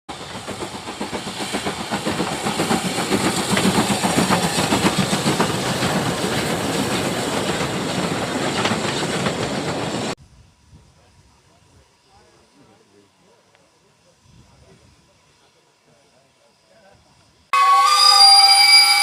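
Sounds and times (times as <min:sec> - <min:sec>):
steam hissing: 0:00.1 - 0:19.0
steam locomotive exhaust chuffs: 0:00.1 - 0:19.0.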